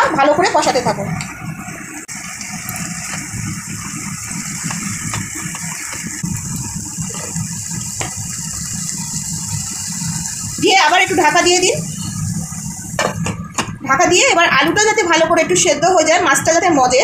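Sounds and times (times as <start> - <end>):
food frying in a pan: 0.0 - 17.0.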